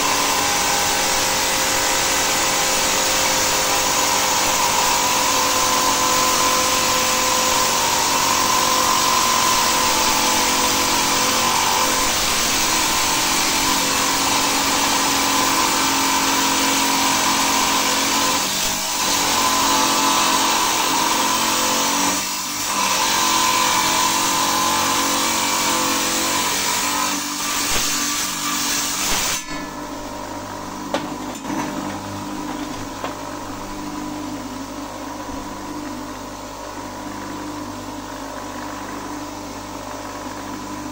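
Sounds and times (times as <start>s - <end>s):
electric stone saw cutting: 0.0s - 37.9s.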